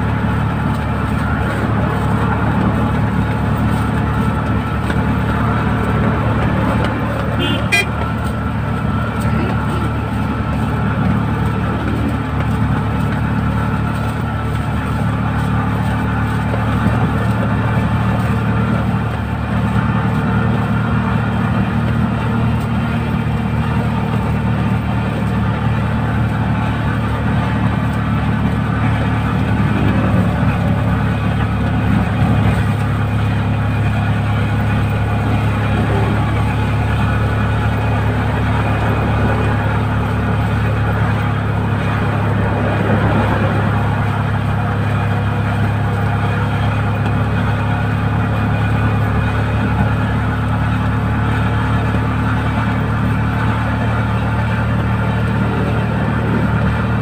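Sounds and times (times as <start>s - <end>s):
road and wind noise: 0.0s - 57.0s
vehicle engine droning: 0.0s - 57.0s.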